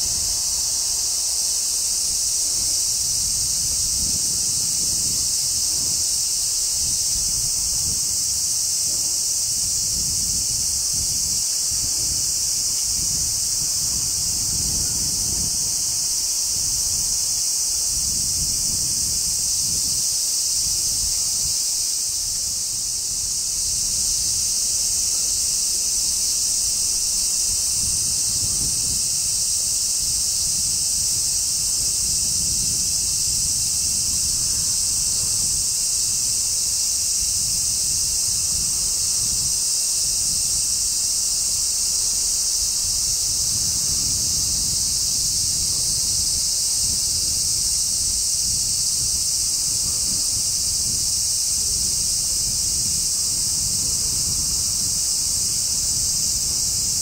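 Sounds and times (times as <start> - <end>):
cicadas droning: 0.0 - 57.0
wind rumbling on microphone: 0.0 - 57.0.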